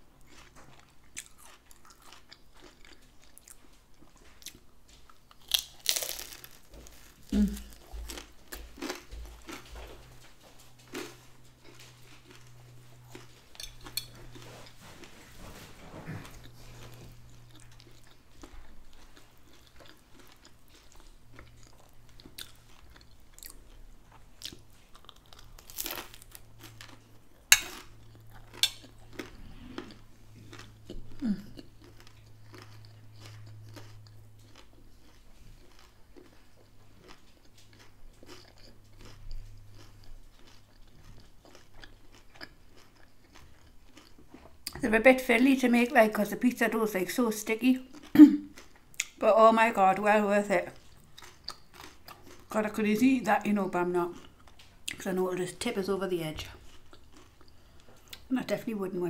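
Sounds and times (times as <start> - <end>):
person chewing and crunching: 0.0 - 58.6.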